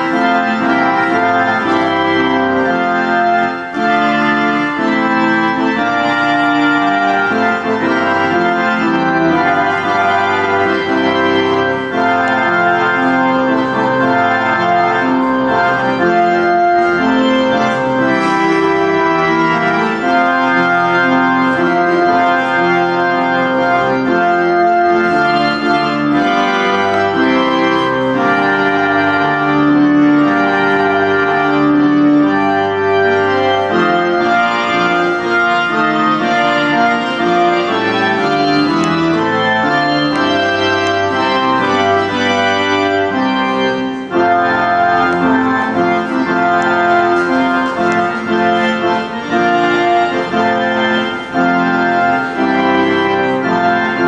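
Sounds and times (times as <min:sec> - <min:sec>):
organ playing chords: 0:00.0 - 0:54.0.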